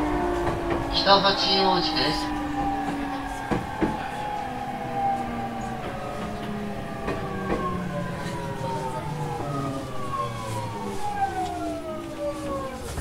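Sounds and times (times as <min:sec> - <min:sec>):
electric train motors whining: 0:00.0 - 0:13.0
low running rumble: 0:00.0 - 0:13.0
wheels knocking: 0:00.0 - 0:13.0.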